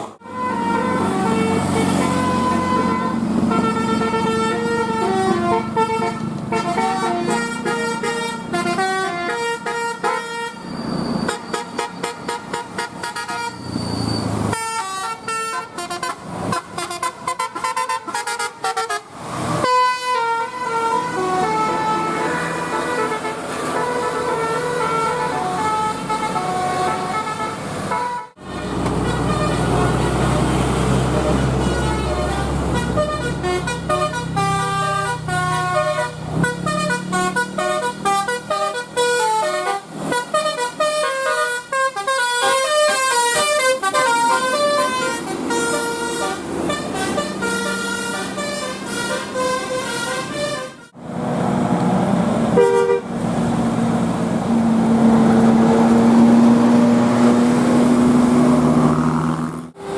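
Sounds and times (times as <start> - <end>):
bus engine low rumble: 0.0 - 59.9
multi-tone air horns playing tunes: 0.2 - 13.6, 14.5 - 30.4, 31.1 - 51.0, 52.6 - 53.1.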